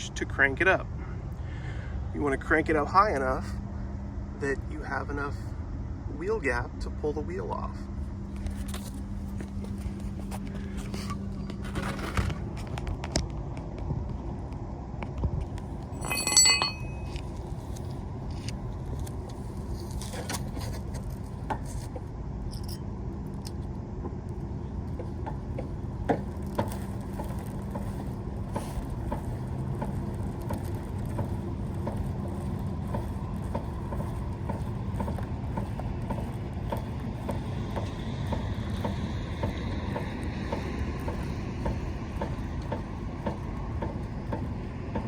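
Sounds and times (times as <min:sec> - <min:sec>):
steady low rumble: 0:00.0 - 0:45.0.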